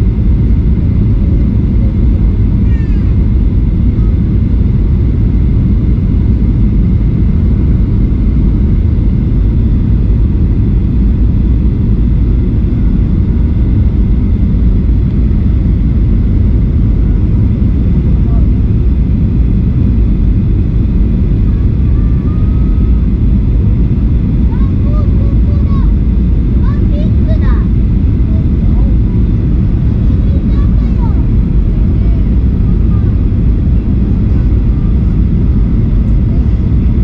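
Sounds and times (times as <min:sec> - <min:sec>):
engine and airflow rumble: 0:00.0 - 0:37.0.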